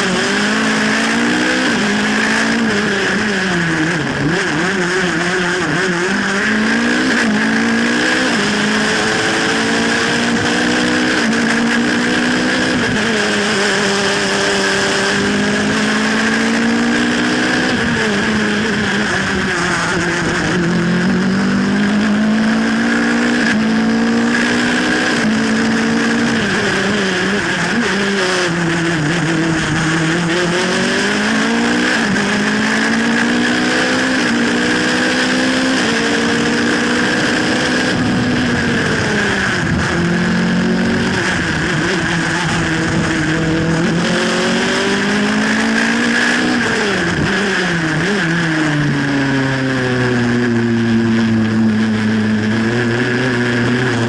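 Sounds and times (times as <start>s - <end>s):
racing car engine revving: 0.0s - 54.0s
wind and road noise: 0.0s - 54.0s.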